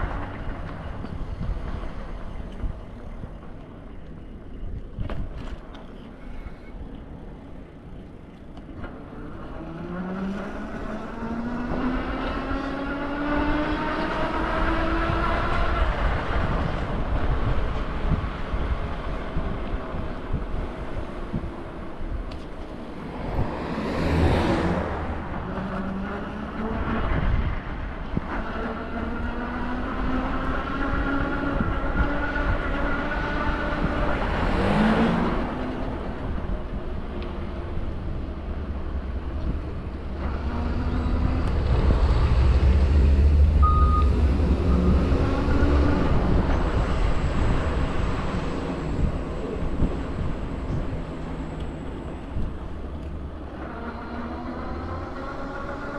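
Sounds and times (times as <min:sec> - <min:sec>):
low traffic rumble: 0:00.0 - 0:55.9
vehicles passing: 0:00.0 - 0:55.9.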